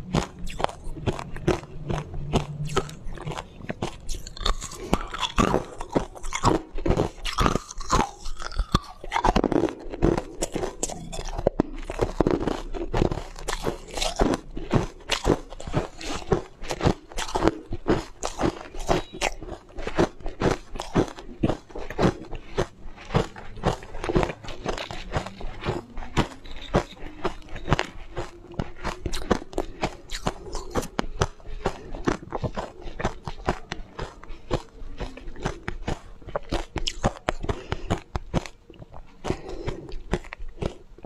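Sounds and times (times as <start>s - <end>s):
ice crunching while chewed: 0.0s - 41.0s.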